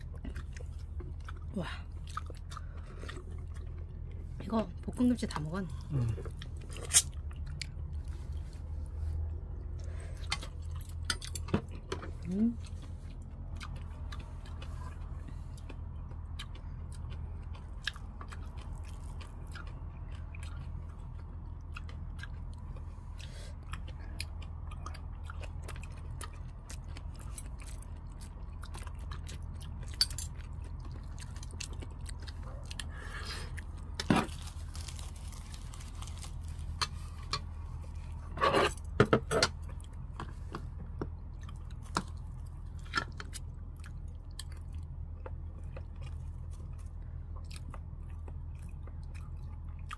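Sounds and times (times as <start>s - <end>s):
person chewing: 0.0s - 4.5s, 5.6s - 49.9s.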